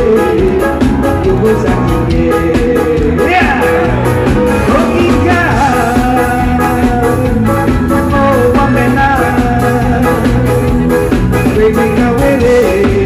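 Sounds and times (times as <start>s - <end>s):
live band with drums: 0.0s - 13.0s
man singing into microphone: 0.0s - 13.0s.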